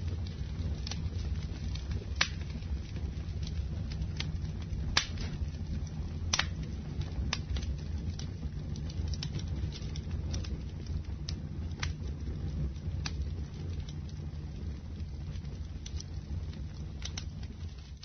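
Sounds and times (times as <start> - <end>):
campfire flames rumbling: 0.0 - 18.0
fire crackling and popping: 0.0 - 18.0.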